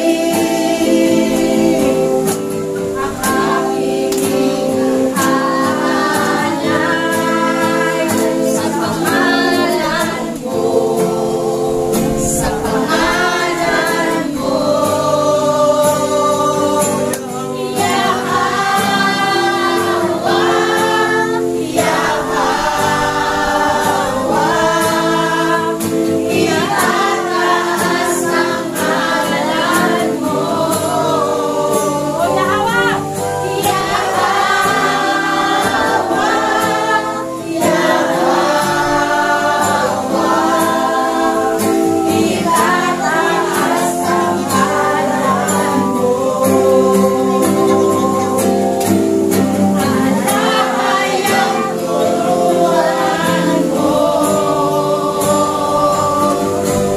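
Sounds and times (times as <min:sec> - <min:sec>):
congregation singing: 0:00.0 - 0:56.9.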